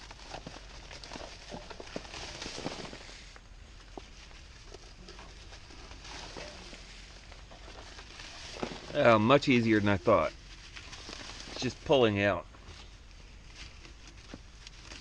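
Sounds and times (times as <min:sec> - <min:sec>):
faint scraping: 0:01.3 - 0:15.0.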